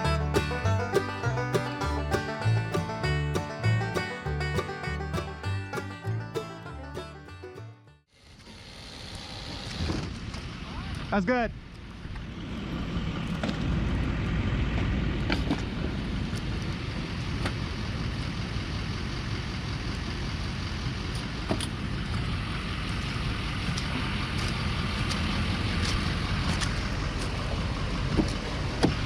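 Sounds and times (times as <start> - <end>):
engine and tyres rumbling: 0.0 - 29.0.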